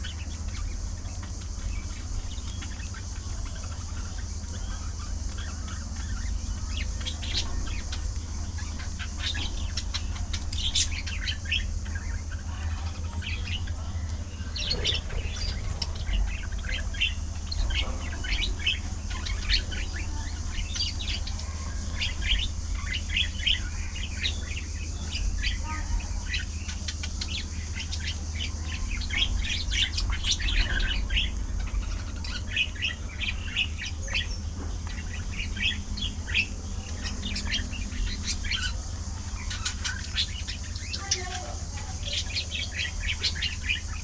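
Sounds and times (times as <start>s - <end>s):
budgerigars chattering and chirping: 0.0s - 44.0s
steady low hum: 0.0s - 44.0s.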